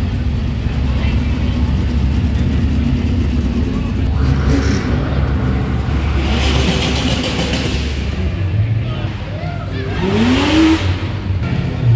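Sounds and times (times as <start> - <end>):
car engines rumbling: 0.0 - 11.9.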